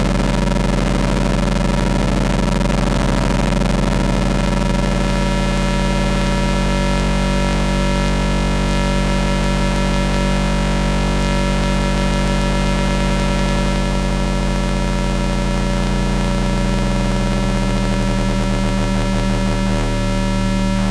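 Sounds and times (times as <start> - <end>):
synthesizer low drone: 0.0 - 20.9.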